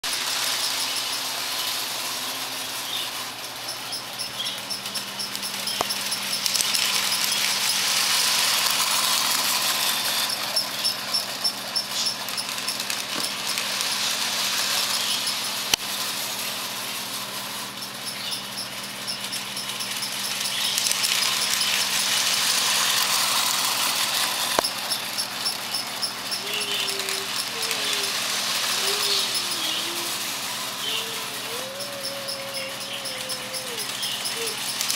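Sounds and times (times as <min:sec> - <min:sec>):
toy train motor whirring: 0:00.0 - 0:34.9
wheels rattling on rails: 0:00.0 - 0:34.9.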